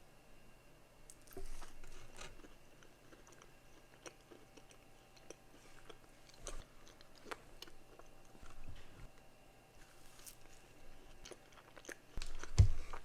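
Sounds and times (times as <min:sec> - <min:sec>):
person chewing crunchy food: 0:01.1 - 0:13.0.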